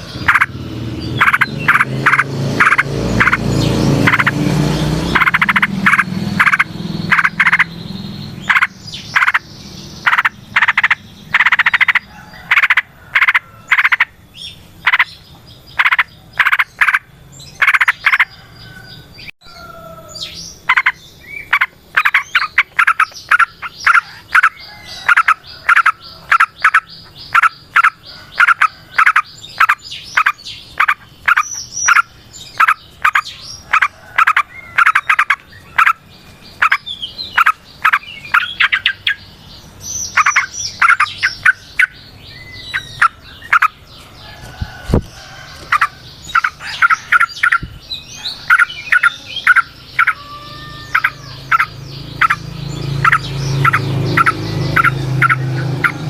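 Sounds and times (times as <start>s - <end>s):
bulbul chattering call: 0.0s - 18.4s, 20.1s - 44.0s, 44.9s - 56.0s.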